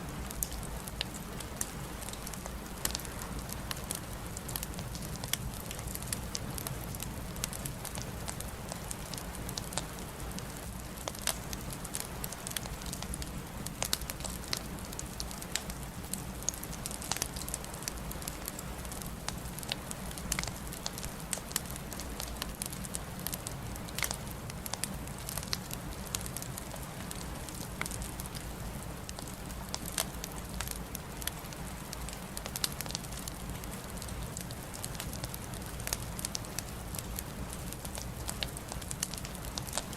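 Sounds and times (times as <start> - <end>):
wood fire crackling and popping: 0.2 - 39.9.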